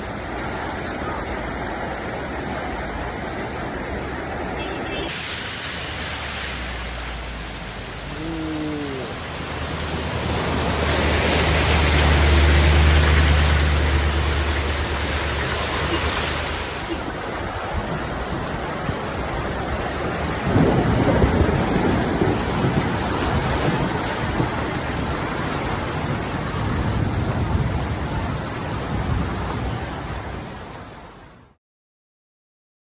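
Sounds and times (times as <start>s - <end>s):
heavy rain pouring: 0.0s - 31.6s.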